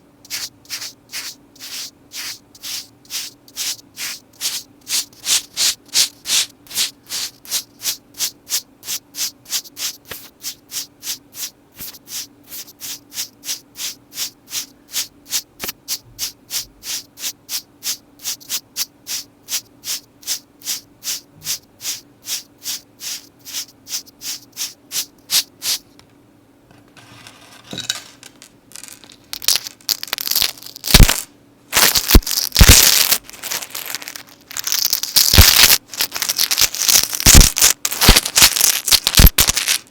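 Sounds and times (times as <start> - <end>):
scratchy rubbing strokes: 0.3 - 25.8, 31.8 - 39.8.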